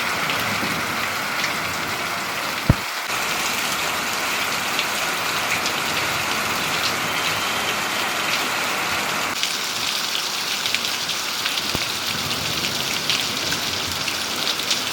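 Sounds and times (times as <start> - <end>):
heavy rain pattering: 0.0 - 14.9.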